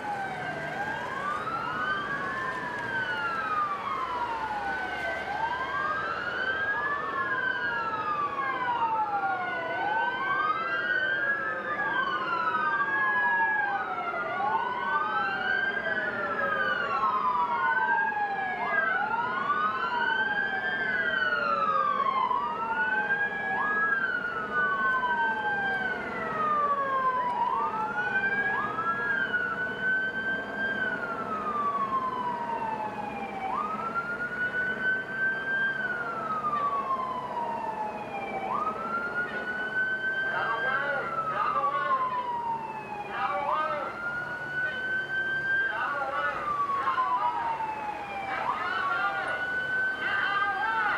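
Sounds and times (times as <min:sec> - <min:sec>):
emergency sirens wailing: 0:00.0 - 0:50.9.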